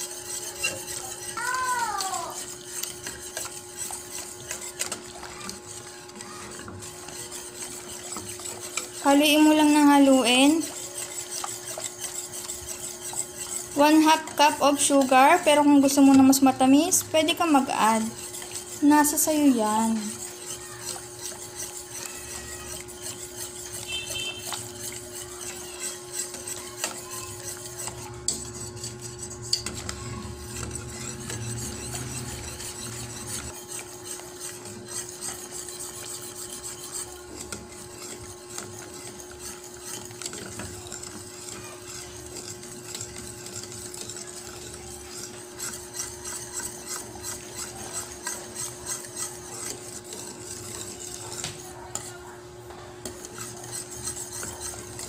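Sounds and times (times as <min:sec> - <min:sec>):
steady hum: 0:00.0 - 0:55.0
utensil scraping a pan: 0:00.0 - 0:55.0.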